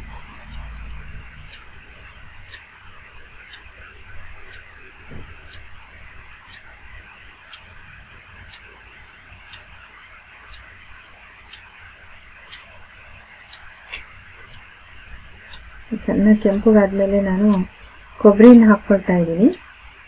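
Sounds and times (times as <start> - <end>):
faint even ticking: 0.0 - 19.9.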